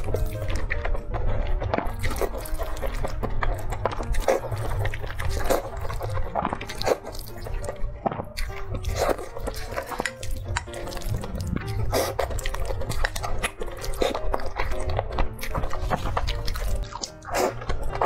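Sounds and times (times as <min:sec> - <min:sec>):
slurping noodles: 0:00.0 - 0:18.0.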